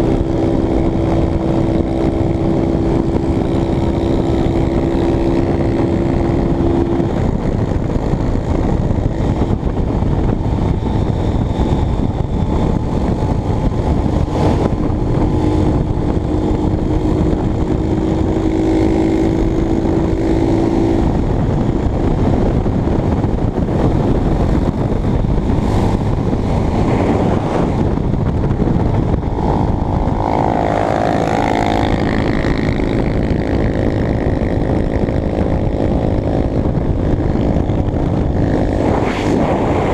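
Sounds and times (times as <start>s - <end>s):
heavy wind noise: 0.0s - 39.9s
motorcycle engine running: 0.0s - 39.9s.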